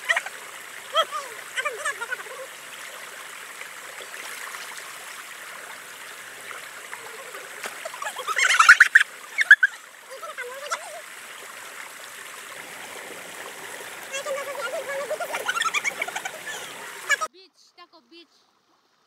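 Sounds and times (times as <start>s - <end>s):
river flowing: 0.0s - 17.3s.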